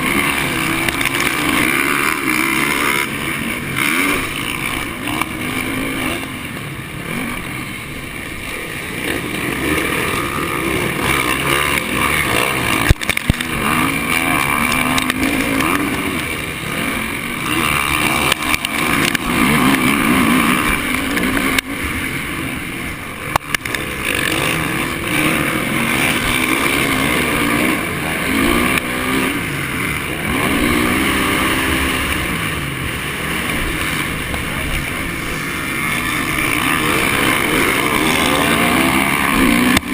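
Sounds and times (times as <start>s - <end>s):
motocross bike engine revving: 0.0s - 39.9s
rush of noise: 0.0s - 39.9s.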